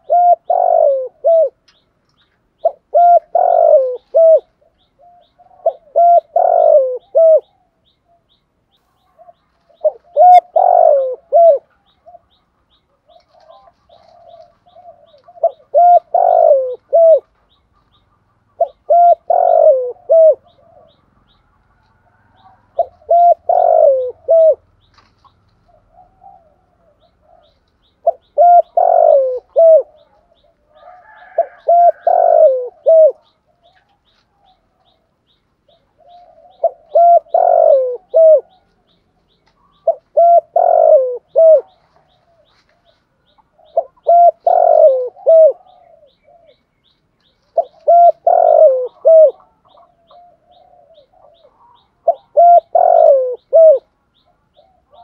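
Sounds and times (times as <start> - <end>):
dove cooing: 0.0 - 1.8, 2.5 - 55.0.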